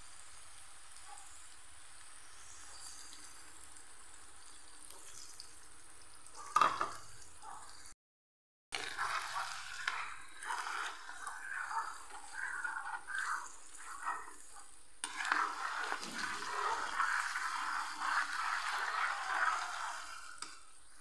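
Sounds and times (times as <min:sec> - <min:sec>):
food sizzling in a wok: 0:00.0 - 0:07.9, 0:08.8 - 0:21.0.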